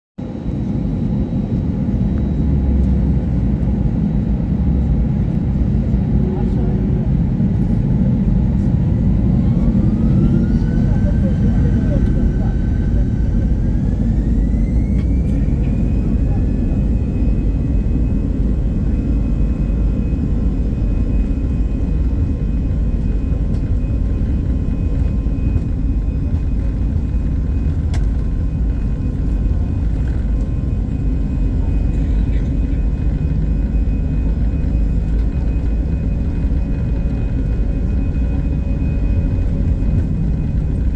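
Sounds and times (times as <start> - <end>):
jet engines rumbling: 0.2 - 40.9.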